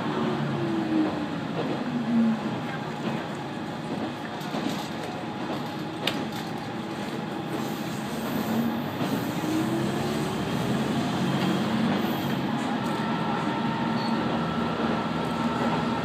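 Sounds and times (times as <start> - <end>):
railcar diesel engine rumble: 0.0 - 16.0.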